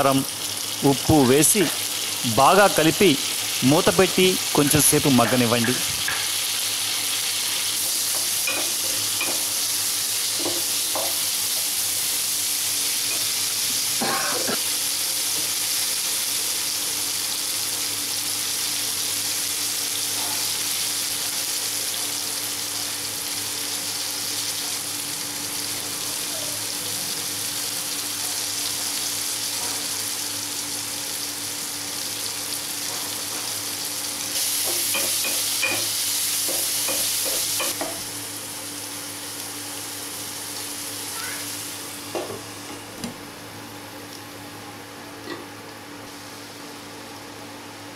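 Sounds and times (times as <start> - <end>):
vegetables sizzling in oil: 0.0 - 43.0, 45.2 - 47.8.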